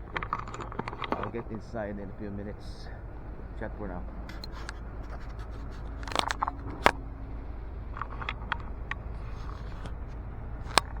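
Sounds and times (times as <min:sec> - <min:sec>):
sharp clicks and knocks: 0:00.0 - 0:02.5, 0:03.6 - 0:11.0
steady low rumble: 0:00.0 - 0:11.0.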